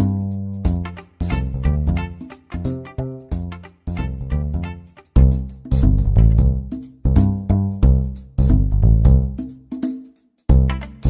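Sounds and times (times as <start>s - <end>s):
plucked guitar notes: 0.0s - 9.1s, 10.5s - 11.0s
bass notes: 0.0s - 9.4s, 10.5s - 11.0s.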